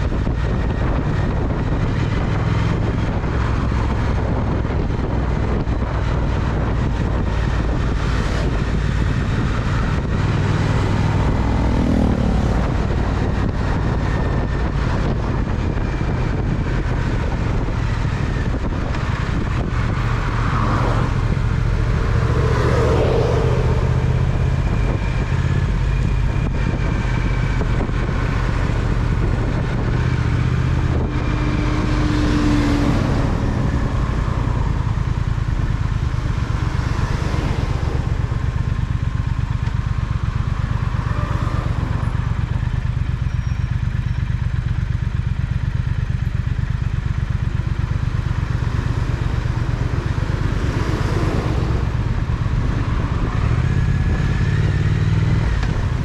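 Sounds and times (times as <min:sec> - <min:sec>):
motorcycle engine running: 0:00.0 - 0:56.0
traffic: 0:00.0 - 0:56.0.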